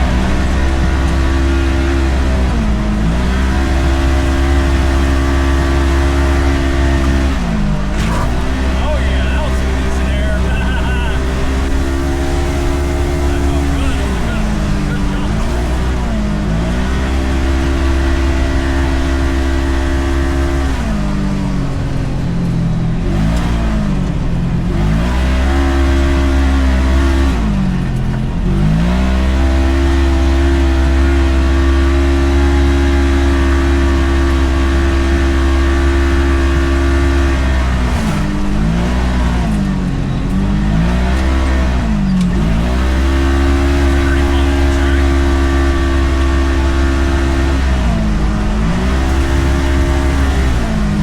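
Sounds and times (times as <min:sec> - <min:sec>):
utility vehicle engine running: 0:00.0 - 0:51.0.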